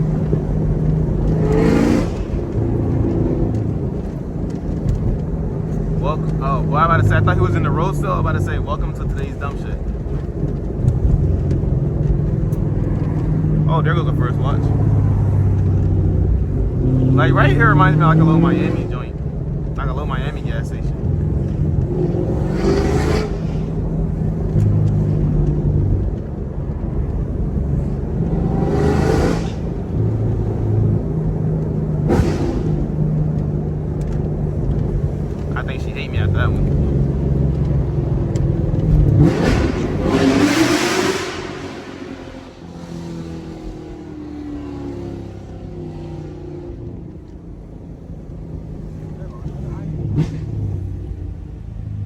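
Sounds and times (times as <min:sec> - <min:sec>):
car engine cruising drone: 0:00.0 - 0:52.0.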